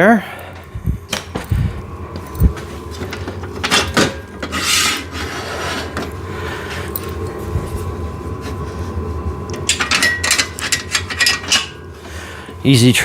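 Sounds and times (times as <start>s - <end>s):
metal bench scraping: 1.4s - 12.3s.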